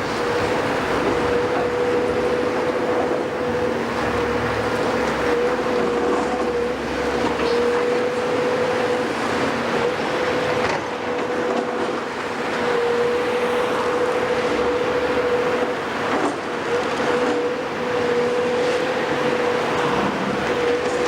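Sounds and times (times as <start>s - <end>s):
diesel construction machinery: 0.0s - 21.0s
high whine: 0.0s - 21.0s.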